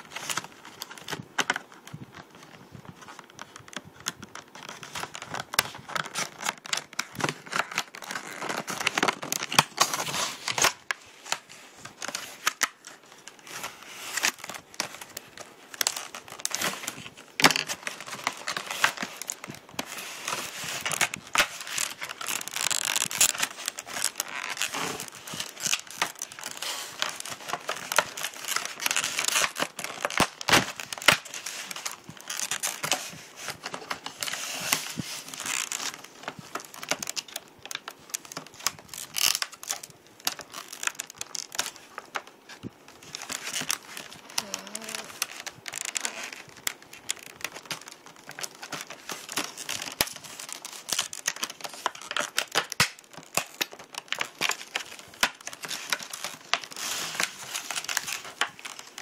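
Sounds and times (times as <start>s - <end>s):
packaging crinkling and tearing: 0.0s - 59.0s
scissors snipping packaging: 4.9s - 42.4s, 43.1s - 59.0s.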